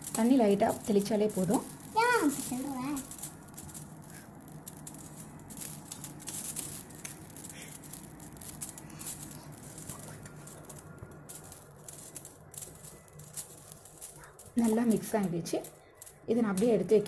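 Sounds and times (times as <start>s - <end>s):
hand rustling flour in bowl: 0.0s - 17.0s
low hum: 0.0s - 17.0s.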